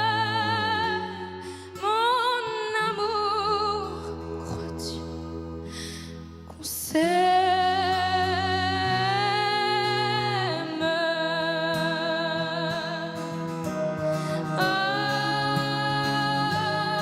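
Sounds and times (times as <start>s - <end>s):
sliding vocal melody over chords: 0.0s - 17.0s.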